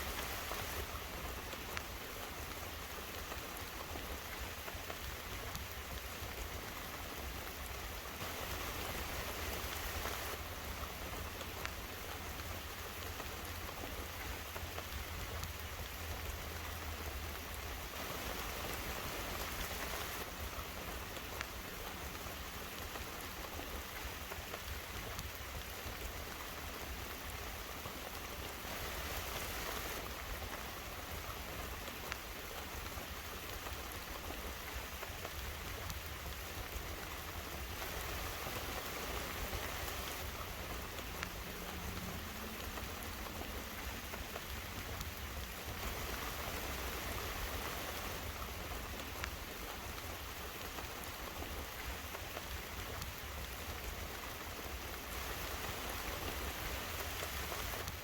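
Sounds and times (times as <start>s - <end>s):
rain heard inside a car: 0.0s - 58.0s.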